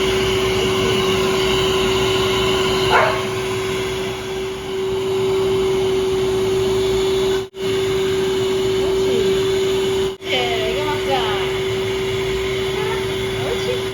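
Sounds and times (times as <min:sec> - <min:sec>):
hair dryer blowing: 0:00.0 - 0:13.9.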